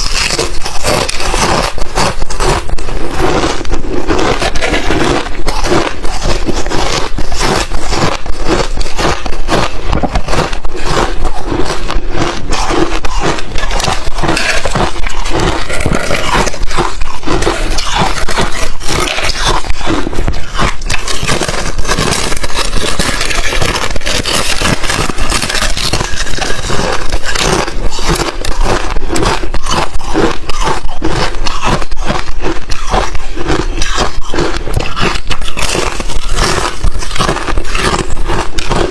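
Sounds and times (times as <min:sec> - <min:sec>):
ice chips crunching in mouth: 0:00.0 - 0:38.9.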